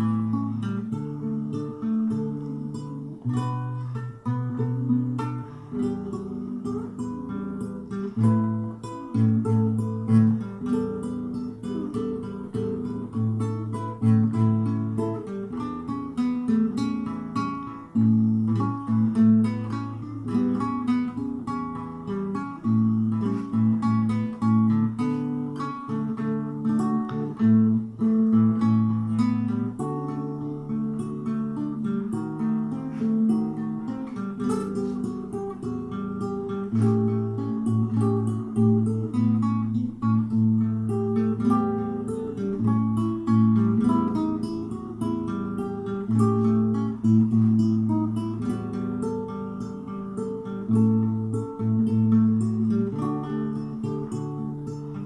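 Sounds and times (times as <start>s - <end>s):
acoustic guitar ballad: 0.0s - 55.0s.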